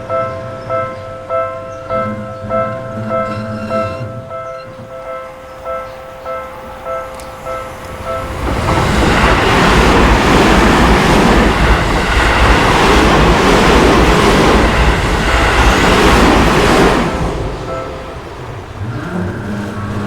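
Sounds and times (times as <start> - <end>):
crossing warning bell: 0.0 - 20.0
train wheel and rail noise: 0.0 - 20.0.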